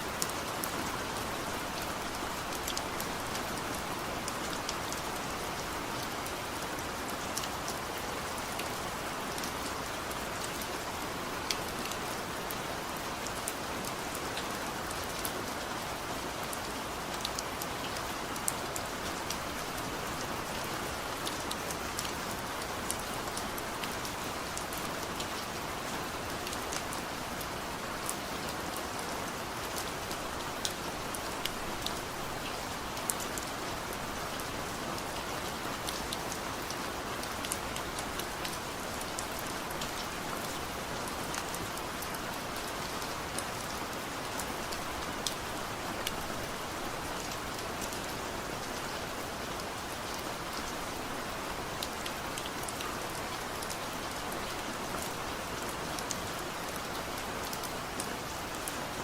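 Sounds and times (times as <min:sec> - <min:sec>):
heavy rain on hard surface: 0:00.0 - 0:59.0.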